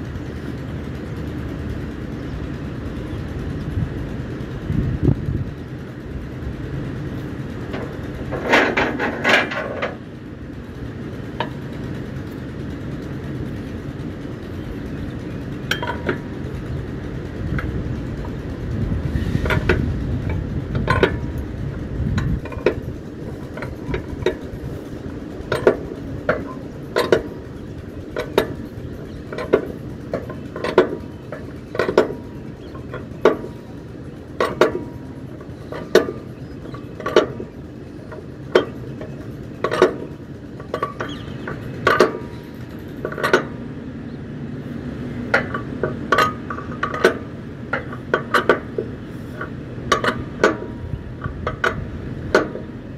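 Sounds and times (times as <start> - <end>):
steady low rumble: 0.0 - 52.9.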